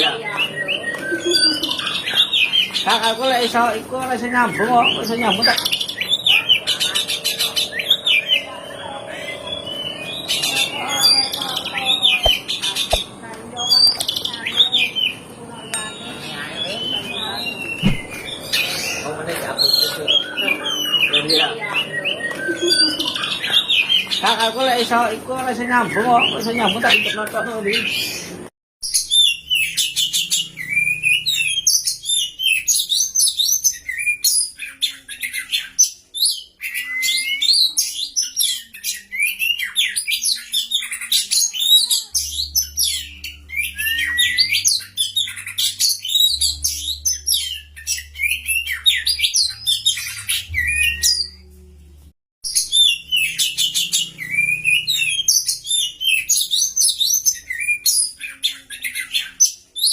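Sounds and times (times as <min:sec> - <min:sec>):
songbird singing: 0:00.0 - 0:28.3, 0:28.9 - 0:59.9.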